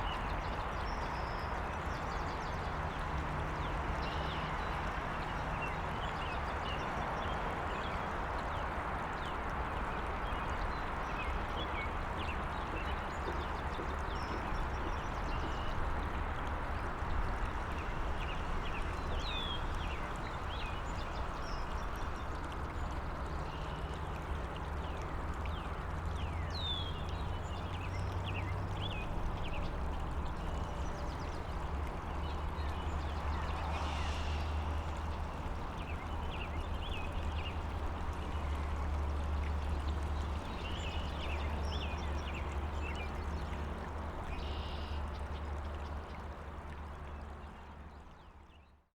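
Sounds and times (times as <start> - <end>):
distant highway traffic hum: 0.0 - 48.4
stream flowing: 0.0 - 48.9.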